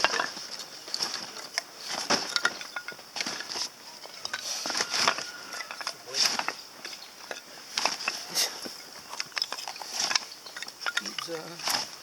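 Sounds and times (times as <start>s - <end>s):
kindling crackling and snapping: 0.0s - 12.0s
steady high-pitched hiss: 0.0s - 12.0s.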